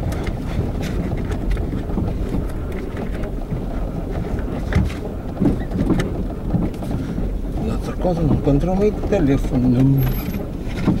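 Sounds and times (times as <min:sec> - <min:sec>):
motorcycle engine and road rumble: 0:00.0 - 0:11.0
wind buffeting microphone: 0:00.0 - 0:11.0.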